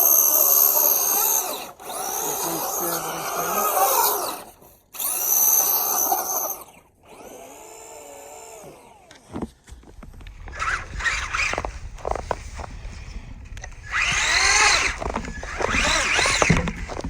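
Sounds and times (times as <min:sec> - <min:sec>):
electric motor whining: 0:00.0 - 0:09.4, 0:10.2 - 0:12.8, 0:13.6 - 0:17.0.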